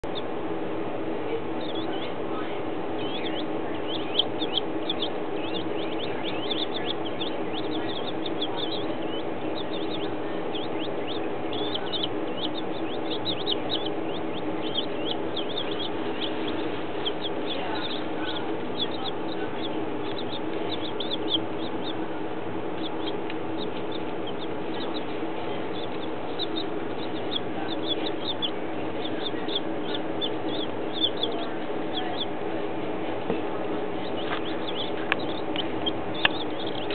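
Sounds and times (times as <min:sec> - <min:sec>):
baby chicks peeping: 0:00.0 - 0:36.9
steady low hum: 0:00.0 - 0:36.9.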